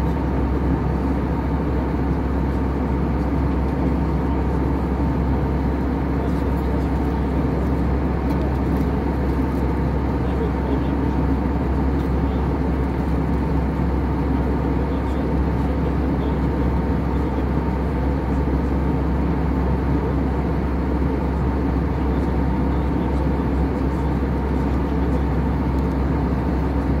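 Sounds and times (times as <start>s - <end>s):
airliner cabin engine drone: 0.0s - 27.0s
faint hum: 0.0s - 27.0s.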